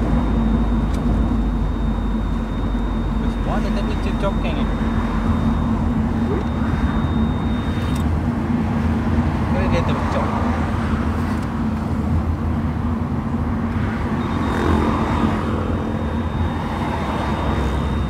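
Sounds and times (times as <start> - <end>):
car engine drone in cabin: 0.0 - 18.0.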